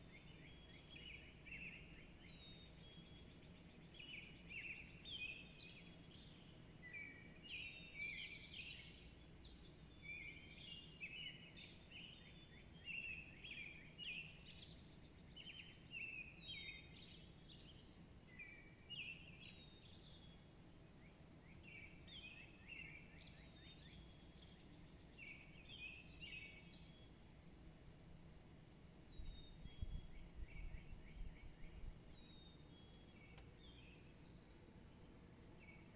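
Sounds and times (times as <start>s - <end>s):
low steady background hum: 0.0s - 35.9s
songbirds chirping: 0.0s - 35.9s.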